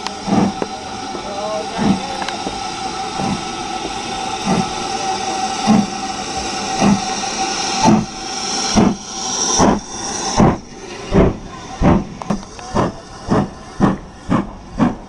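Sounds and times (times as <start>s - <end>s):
steam hissing: 0.0s - 15.0s
steam locomotive exhaust chuffs: 0.0s - 15.0s.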